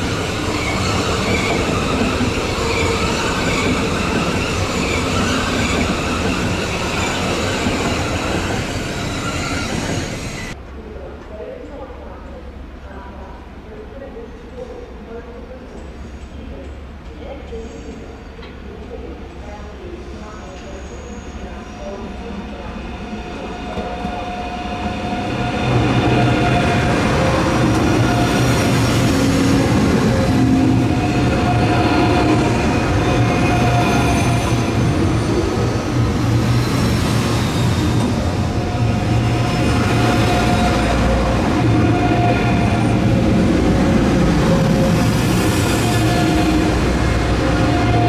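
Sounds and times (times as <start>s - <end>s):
high-speed train passing: 0.0s - 48.0s.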